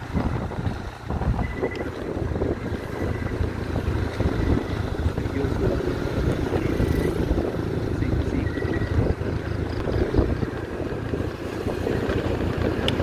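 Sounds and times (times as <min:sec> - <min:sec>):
motorcycle engine and road noise: 0:00.0 - 0:13.0
wind buffeting microphone: 0:00.0 - 0:13.0.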